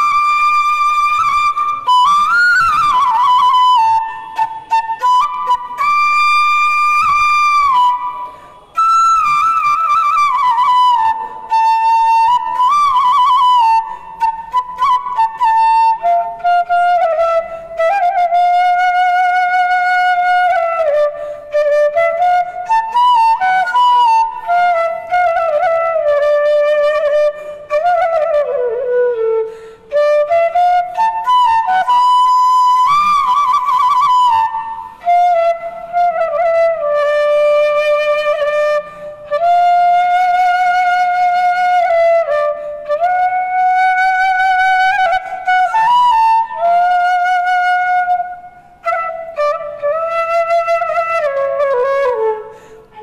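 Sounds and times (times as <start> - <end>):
bamboo flute melody: 0.0 - 53.0.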